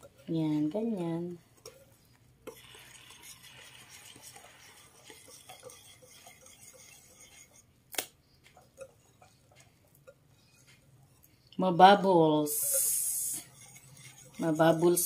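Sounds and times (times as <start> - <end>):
whisk swishing in bowl: 0.0 - 7.7, 8.4 - 15.0.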